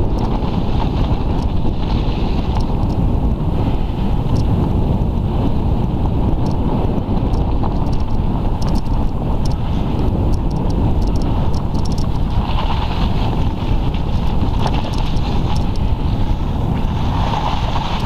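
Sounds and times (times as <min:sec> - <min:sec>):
bicycle rattles and clicks: 0:00.0 - 0:18.0
wind buffeting microphone: 0:00.0 - 0:18.0.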